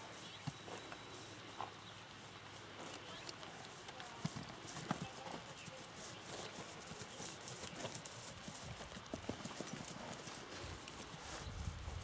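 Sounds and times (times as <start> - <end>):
soft hoofbeats on grass: 0.0 - 12.0.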